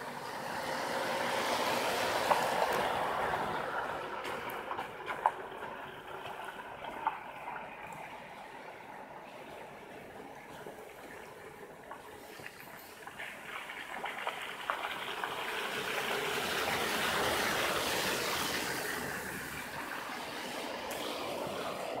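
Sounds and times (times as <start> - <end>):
meltwater trickling under ice: 0.1 - 22.0.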